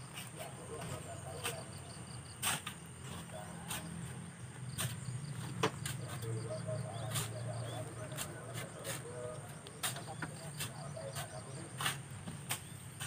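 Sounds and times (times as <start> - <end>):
shovels scraping wet sand: 0.0 - 13.0.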